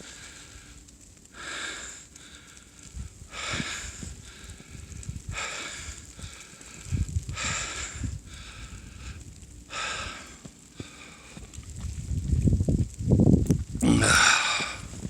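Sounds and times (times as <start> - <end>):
person breathing heavily: 0.0 - 11.6, 13.8 - 15.0.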